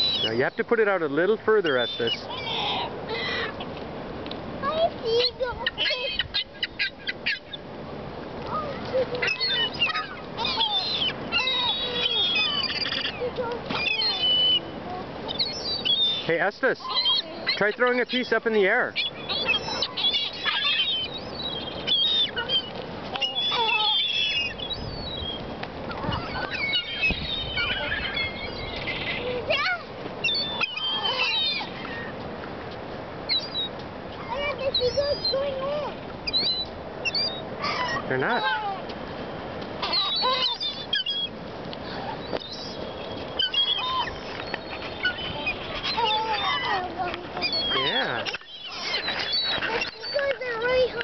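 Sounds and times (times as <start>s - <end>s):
seagulls squawking: 0.0s - 3.8s, 4.6s - 7.7s, 8.5s - 32.2s, 33.3s - 38.9s, 39.8s - 51.0s.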